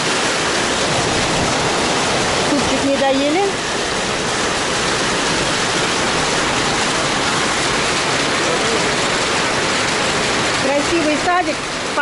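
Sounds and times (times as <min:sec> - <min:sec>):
heavy rain and hail: 0:00.0 - 0:12.0.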